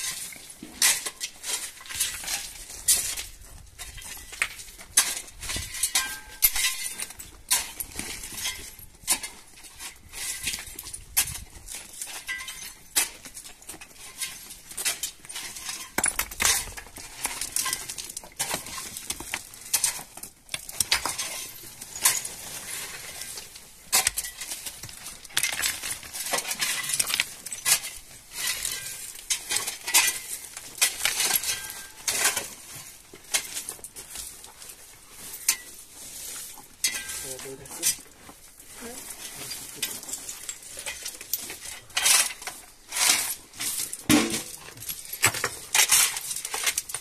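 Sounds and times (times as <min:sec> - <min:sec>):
stones and gravel clinking: 0:00.0 - 0:47.0.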